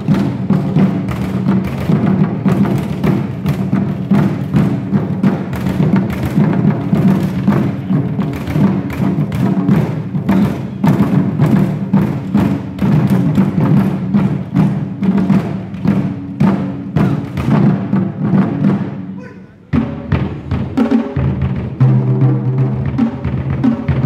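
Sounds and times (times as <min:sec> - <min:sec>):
drum ensemble playing fast rhythm: 0:00.0 - 0:24.0.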